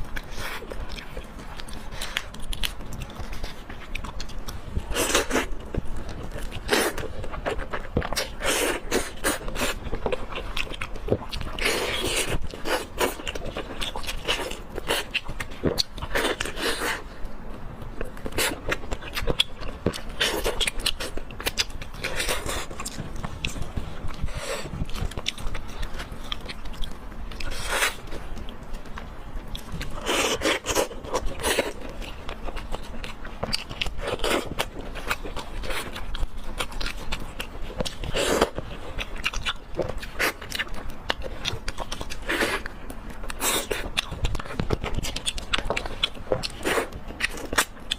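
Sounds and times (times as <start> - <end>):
person chewing food: 0.0 - 47.9.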